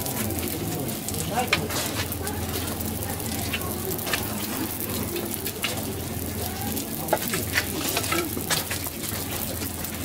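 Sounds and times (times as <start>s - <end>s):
food sizzling on a griddle: 0.0s - 10.0s.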